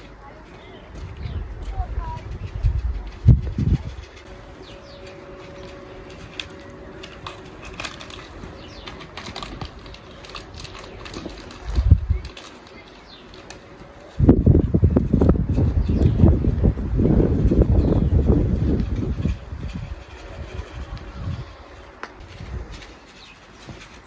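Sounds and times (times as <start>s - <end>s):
light rustling: 0.0s - 24.0s
wind buffeting microphone: 0.0s - 24.0s.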